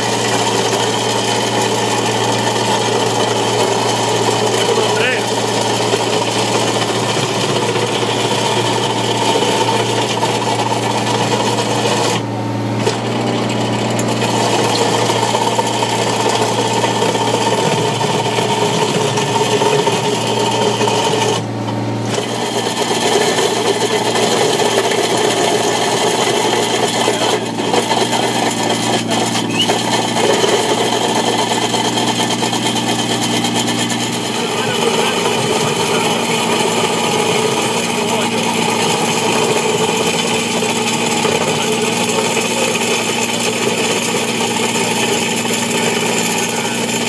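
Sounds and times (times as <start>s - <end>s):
cutting disk grinding asphalt: 0.0s - 47.0s.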